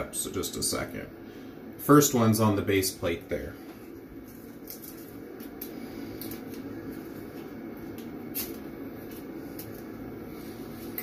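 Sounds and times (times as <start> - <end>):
room noise: 0.0 - 11.0.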